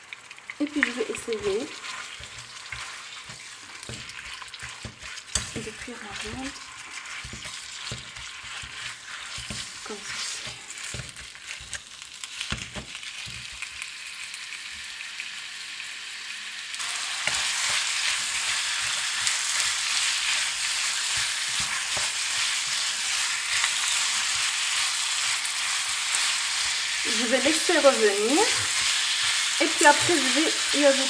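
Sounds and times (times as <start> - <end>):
meat sizzling in a wok: 0.0 - 31.0
wooden spatula stirring: 0.6 - 13.6, 17.2 - 31.0.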